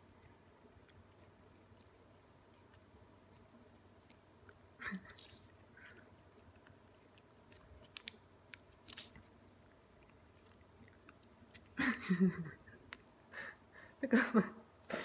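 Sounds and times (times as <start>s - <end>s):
cats licking: 0.0s - 14.0s.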